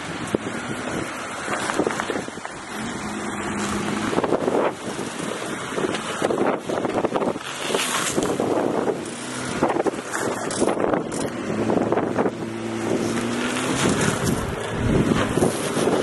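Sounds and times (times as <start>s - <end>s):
engine running at low revs: 0.0s - 16.0s
wind buffeting microphone: 0.0s - 16.0s.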